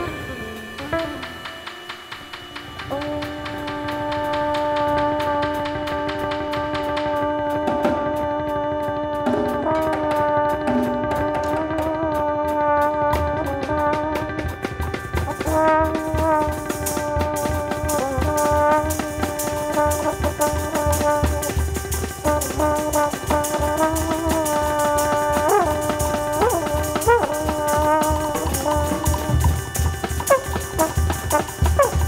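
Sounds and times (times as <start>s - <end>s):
conga and drum kit: 0.0s - 32.0s
trombone long notes: 0.0s - 32.0s.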